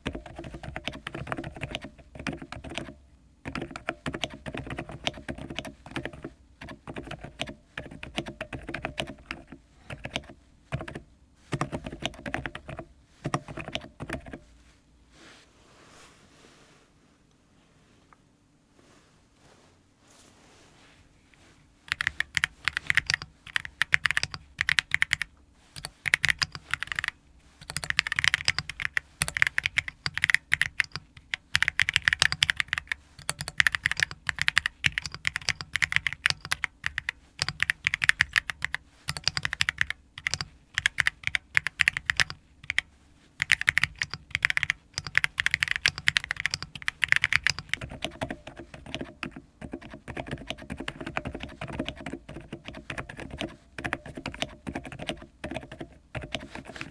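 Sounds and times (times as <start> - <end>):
mechanical keyboard typing: 0.0 - 14.4, 21.9 - 56.9.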